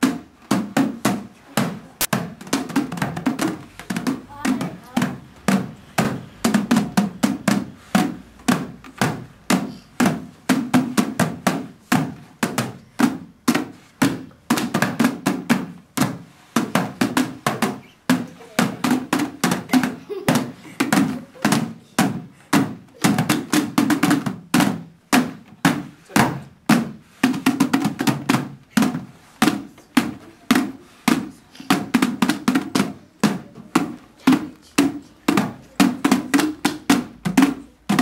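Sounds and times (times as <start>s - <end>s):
plastic cones knocking on wooden floor: 0.0s - 38.0s.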